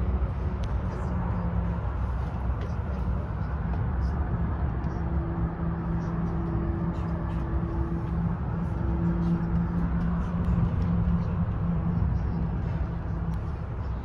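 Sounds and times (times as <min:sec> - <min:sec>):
cable car rumble and hum: 0:00.0 - 0:14.0
higher hum: 0:00.0 - 0:14.0.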